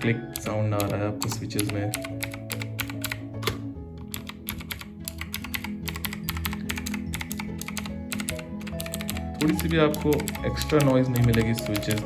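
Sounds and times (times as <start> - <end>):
background music: 0.0 - 12.0
mechanical keyboard clicks: 0.0 - 12.0.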